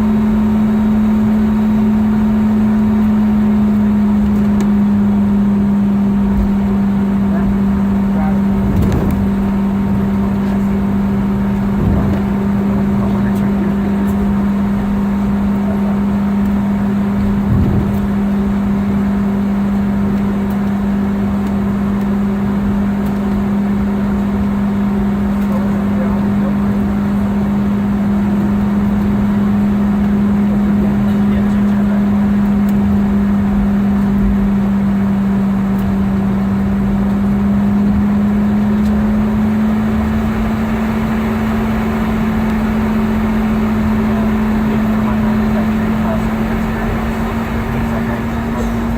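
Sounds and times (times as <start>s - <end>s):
low hum: 0.0s - 21.4s, 23.1s - 48.9s
airplane cabin drone: 0.0s - 48.9s.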